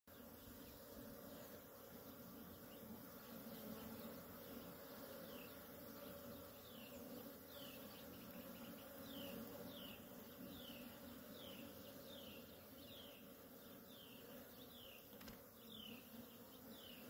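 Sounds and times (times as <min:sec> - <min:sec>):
honeybees buzzing: 0:00.1 - 0:17.0.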